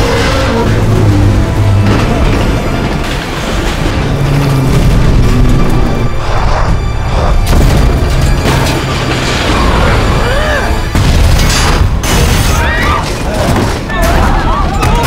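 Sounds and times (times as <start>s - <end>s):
train carriage grinding on rails: 0.0s - 12.2s
film music score: 0.0s - 15.0s.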